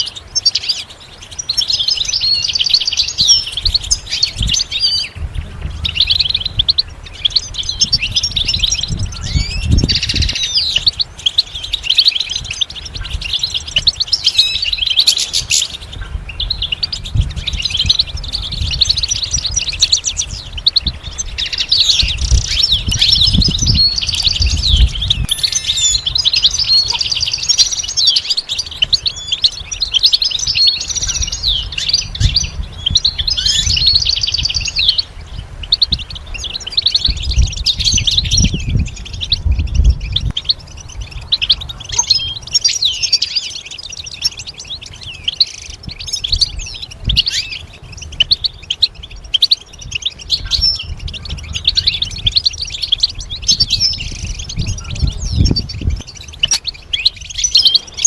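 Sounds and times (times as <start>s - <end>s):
goldfinch twittering and trilling: 0.0s - 58.0s.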